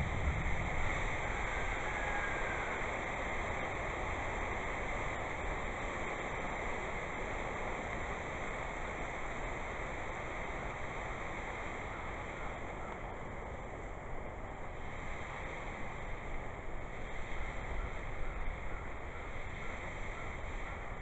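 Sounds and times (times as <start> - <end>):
fertilizer burning with rushing hiss: 0.0 - 21.0.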